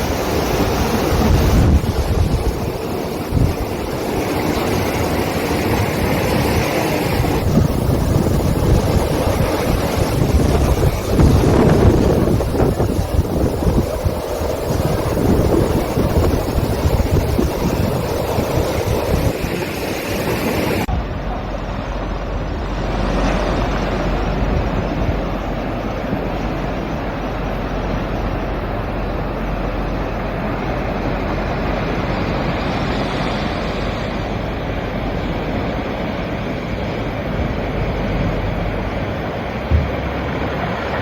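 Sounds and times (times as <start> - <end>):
sea waves washing against rocks: 0.0 - 41.0
wind: 0.0 - 41.0.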